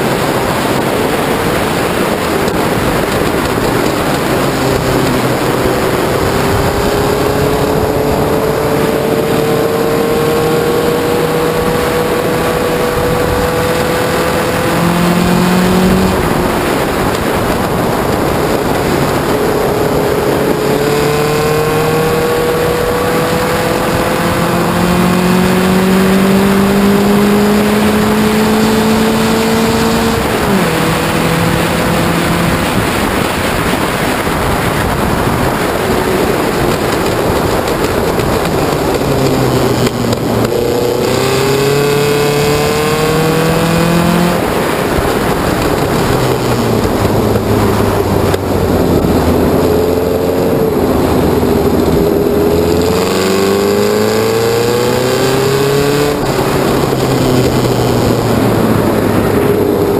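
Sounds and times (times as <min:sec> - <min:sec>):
racing car engine revving: 0:00.0 - 0:59.9
road noise: 0:00.0 - 0:59.9
wind noise: 0:00.0 - 0:59.9.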